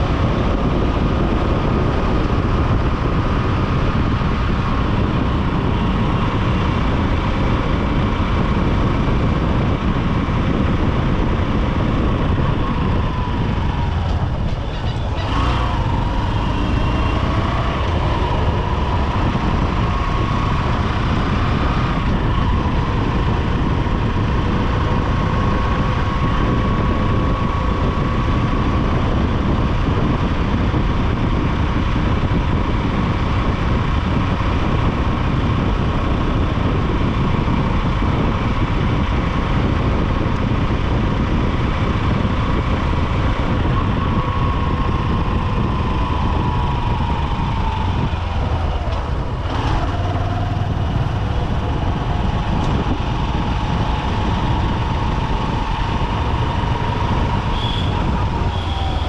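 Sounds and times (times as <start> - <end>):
city traffic noise: 0.0 - 59.0
motorcycle engine running: 0.0 - 59.0.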